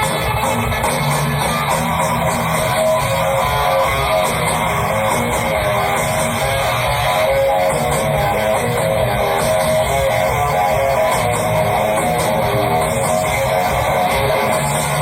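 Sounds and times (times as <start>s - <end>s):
bass guitar: 0.0s - 15.0s
electric guitar: 0.0s - 15.0s.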